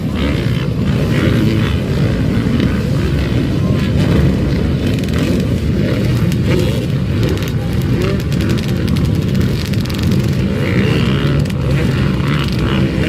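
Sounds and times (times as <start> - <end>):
dirt bike and quad engines: 0.0 - 13.0.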